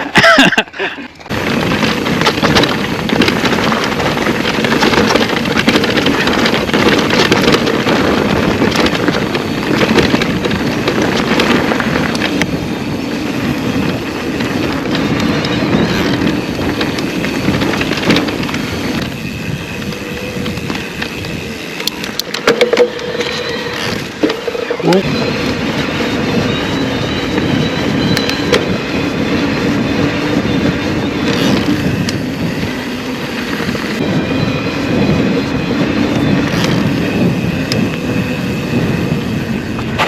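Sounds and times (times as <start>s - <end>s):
bike tyre rumble on trail: 0.0s - 40.0s
bike rattling knocks: 1.2s - 34.0s.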